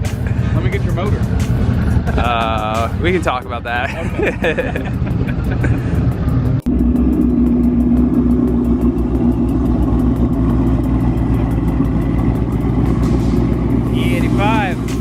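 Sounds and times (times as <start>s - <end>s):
car engine idling deep and loud: 0.0s - 15.0s.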